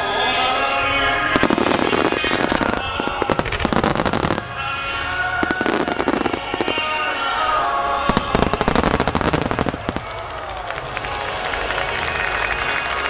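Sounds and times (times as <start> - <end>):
faint music: 0.0 - 13.0
fireworks bursting and crackling: 1.3 - 13.0.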